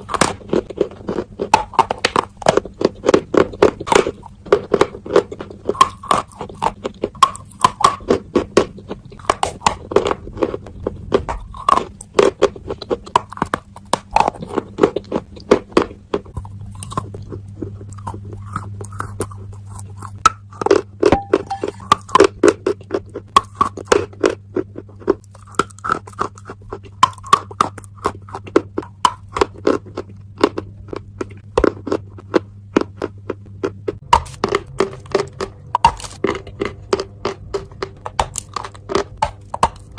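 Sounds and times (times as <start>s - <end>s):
chalk being crunched and chewed: 0.0s - 39.9s.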